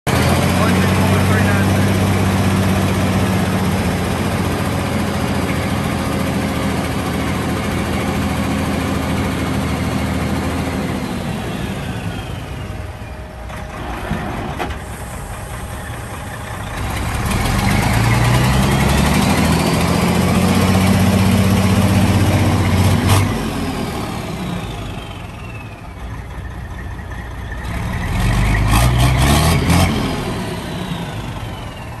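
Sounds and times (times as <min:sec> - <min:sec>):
diesel truck engine revving: 0:00.1 - 0:32.0.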